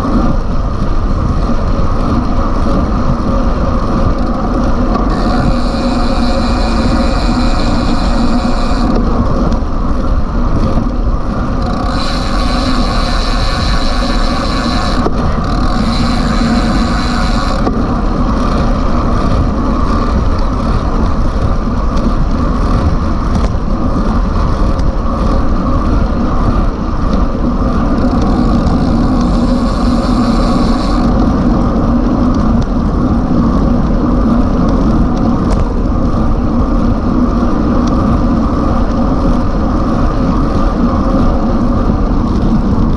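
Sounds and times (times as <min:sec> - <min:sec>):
wind rush on microphone: 0:00.0 - 0:42.9.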